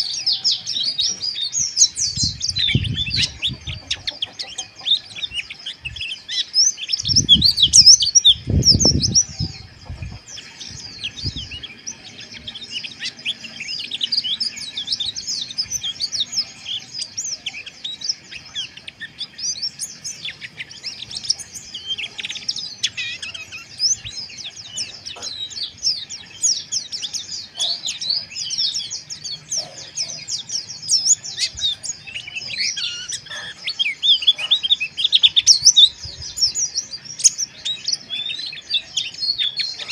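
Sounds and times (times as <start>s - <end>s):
bird twittering rough chirps: 0.0s - 39.9s.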